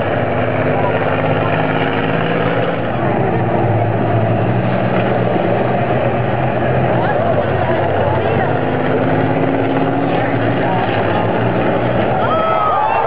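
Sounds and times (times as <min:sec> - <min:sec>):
diesel engines grinding under load: 0:00.0 - 0:13.0.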